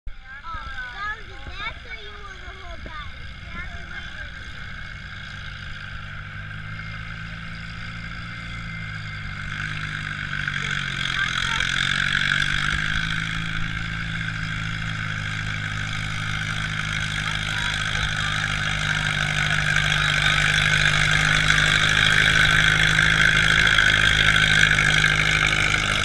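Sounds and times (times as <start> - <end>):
vehicle engine working hard: 0.1 - 26.0.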